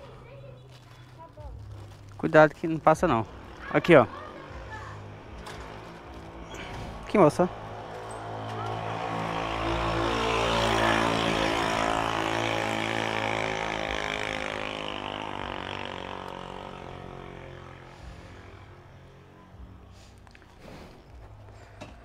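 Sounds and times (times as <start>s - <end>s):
passing vehicle engine hum: 0.0s - 22.0s.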